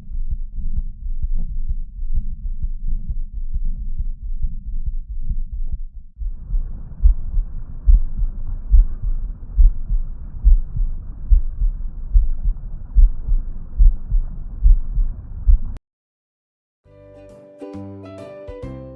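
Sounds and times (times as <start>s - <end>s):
heartbeat thumps: 0.0s - 15.8s.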